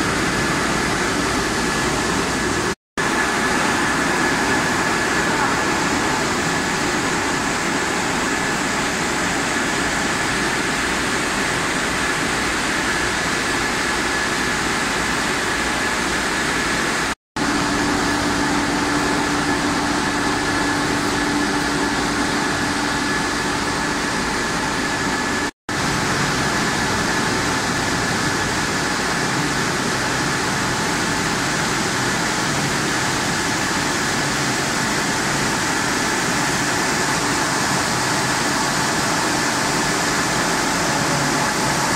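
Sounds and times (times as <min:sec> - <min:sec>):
constant high whine: 0:00.0 - 0:41.9
conveyors and drive motors running: 0:00.0 - 0:41.9.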